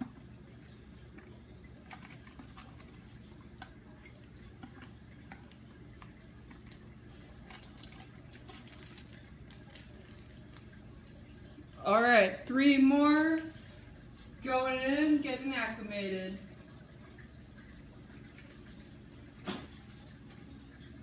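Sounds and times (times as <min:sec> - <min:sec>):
water dripping and splashing: 0:00.0 - 0:21.0.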